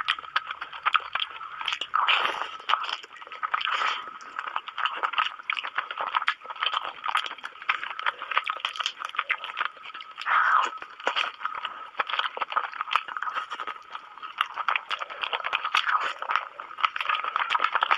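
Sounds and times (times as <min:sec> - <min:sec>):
person chewing and smacking: 0:00.0 - 0:17.9.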